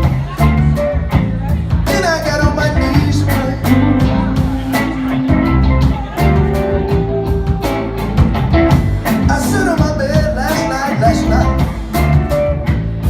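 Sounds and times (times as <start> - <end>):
bass: 0.0 - 13.0
blues guitar lines: 0.0 - 13.0
steady drum beat: 0.0 - 13.0.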